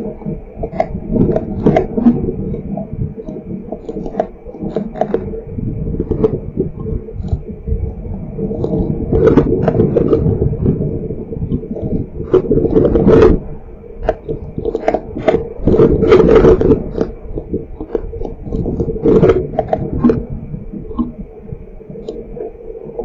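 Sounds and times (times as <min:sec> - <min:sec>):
strong wind gusts: 0:00.0 - 0:23.0.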